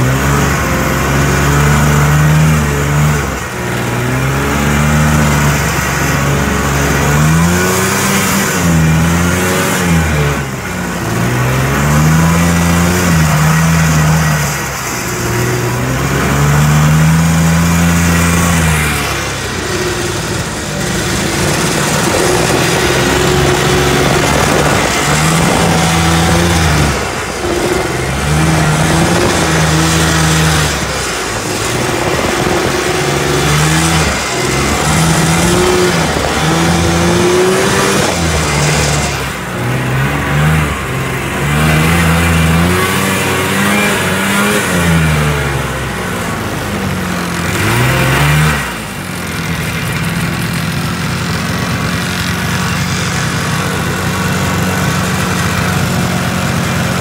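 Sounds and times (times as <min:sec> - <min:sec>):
rushing hiss of wind and snow: 0:00.0 - 0:57.0
snowmobile engine revving: 0:00.0 - 0:57.0.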